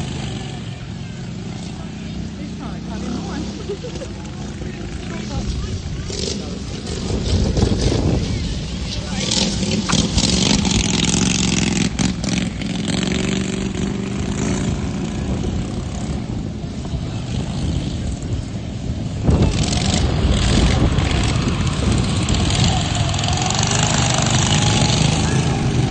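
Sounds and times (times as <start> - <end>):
lawn mower engines revving high: 0.0 - 25.9.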